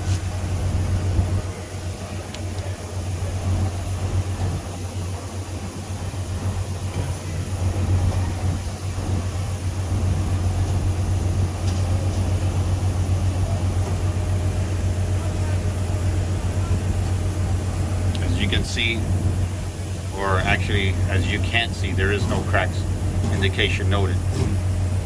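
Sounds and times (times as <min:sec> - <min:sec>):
low mechanical drone: 0:00.0 - 0:25.0.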